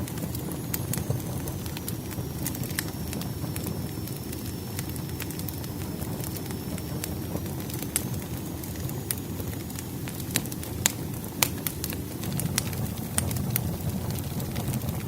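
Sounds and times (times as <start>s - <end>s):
firewood popping and crackling: 0.0s - 15.0s
low rumble of flame: 0.0s - 15.0s.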